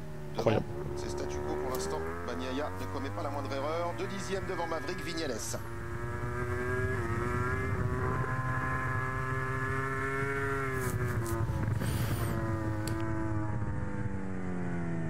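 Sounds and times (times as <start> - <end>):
racing motorcycle engine high revs: 0.0 - 15.0.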